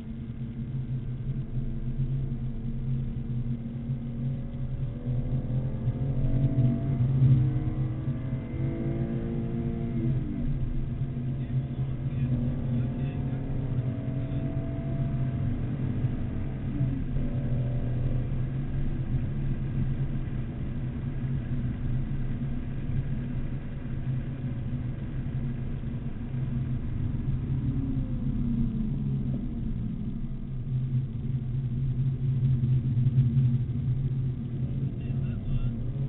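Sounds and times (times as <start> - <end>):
car engine at speed: 0.0 - 36.0.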